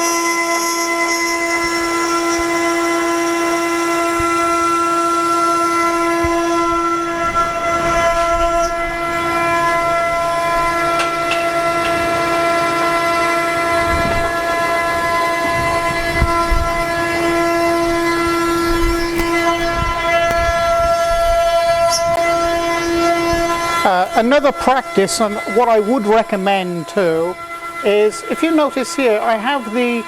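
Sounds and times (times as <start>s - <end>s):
bit cutting wood: 0.0s - 30.0s
router spindle whining: 0.0s - 30.0s.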